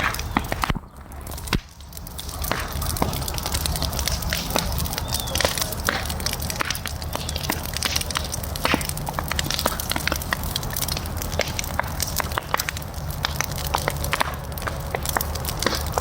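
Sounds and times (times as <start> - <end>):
bonfire crackling: 0.0 - 16.0
sharp pops: 0.0 - 16.0.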